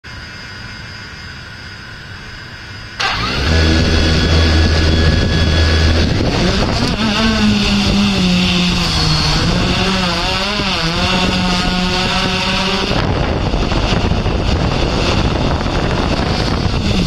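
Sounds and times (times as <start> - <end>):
drone rotors whirring: 0.1 - 17.0.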